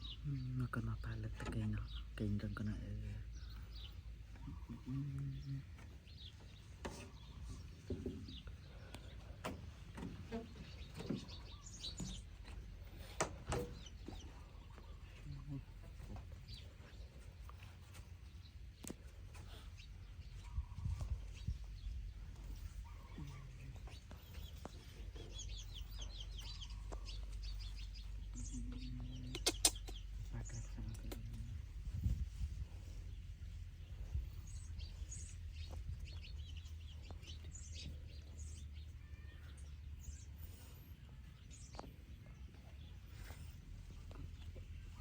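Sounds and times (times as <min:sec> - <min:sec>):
birds chirping: 0:00.0 - 0:45.0
low background rumble: 0:00.0 - 0:45.0
low steady hum: 0:00.0 - 0:45.0.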